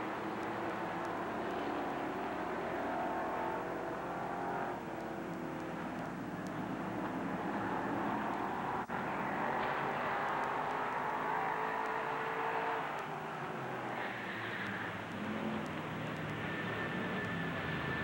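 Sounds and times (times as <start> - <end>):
race car engines running: 0.0 - 18.0.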